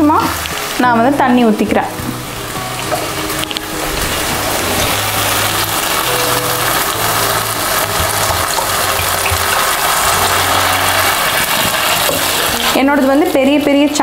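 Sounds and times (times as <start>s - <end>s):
water poured into sizzling pan: 2.0s - 14.0s.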